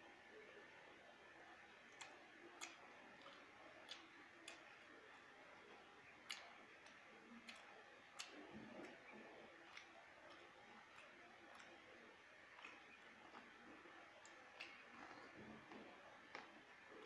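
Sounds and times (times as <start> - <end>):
mouth chewing food: 0.3 - 17.0.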